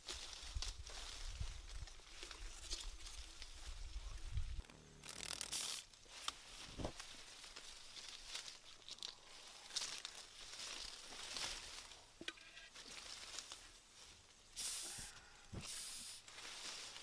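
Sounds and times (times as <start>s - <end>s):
leaves and twigs rustling: 0.0s - 17.0s.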